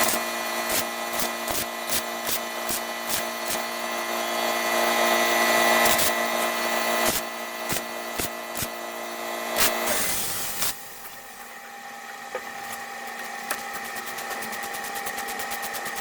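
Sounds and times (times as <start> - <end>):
small motorised tool humming: 0.0 - 16.0.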